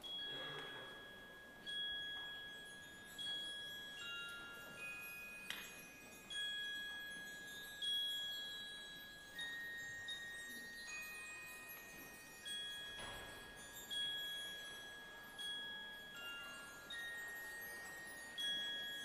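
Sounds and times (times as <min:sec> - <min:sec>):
glockenspiel notes: 0:00.0 - 0:19.0.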